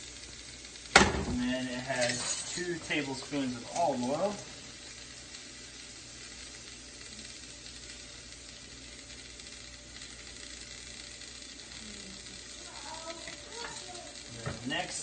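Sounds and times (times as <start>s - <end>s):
food sizzling in frying pans: 0.0s - 15.0s.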